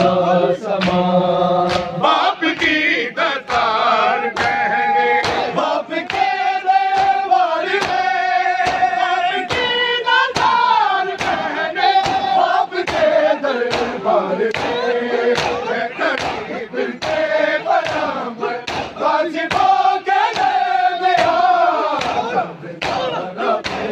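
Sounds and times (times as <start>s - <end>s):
chorus singing long notes: 0.0s - 23.9s
men slapping chests in unison: 0.0s - 23.9s.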